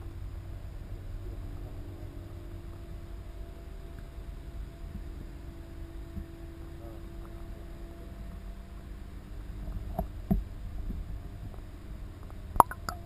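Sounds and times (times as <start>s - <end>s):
faint hum: 0.0s - 13.0s
underwater low rumble: 0.0s - 13.0s.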